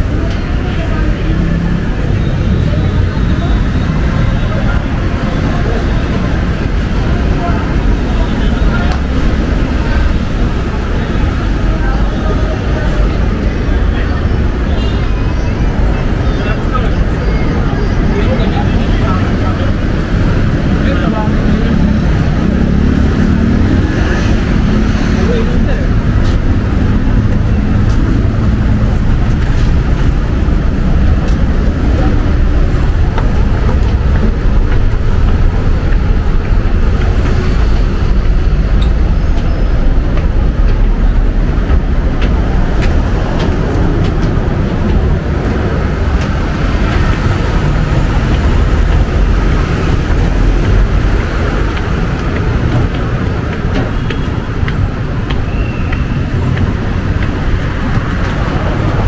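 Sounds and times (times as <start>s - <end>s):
heavy road traffic rumble: 0.0s - 59.0s.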